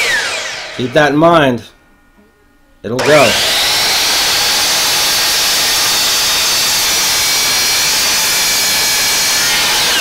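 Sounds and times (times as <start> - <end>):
miter saw high whine: 0.0 - 1.7, 3.0 - 10.0.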